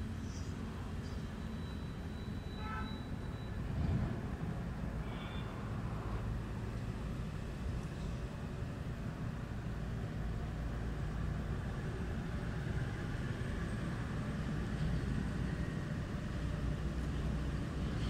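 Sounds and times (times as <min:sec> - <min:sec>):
low outdoor rumble: 0:03.2 - 0:18.0.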